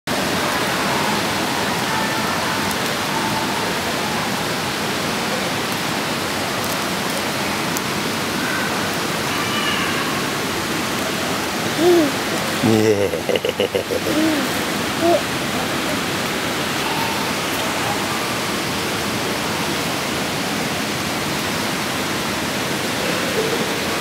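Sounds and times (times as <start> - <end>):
falling water rushing: 0.1 - 24.0.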